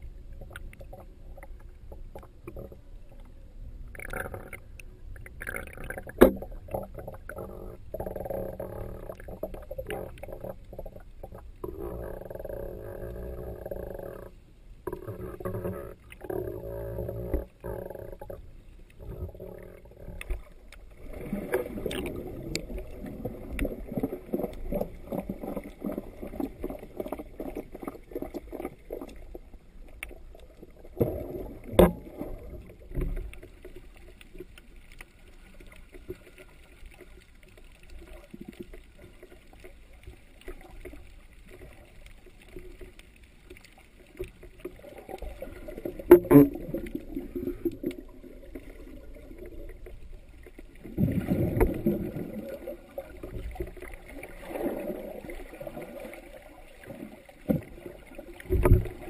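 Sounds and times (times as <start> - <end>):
underwater sloshing and gurgling: 0.0 - 59.0.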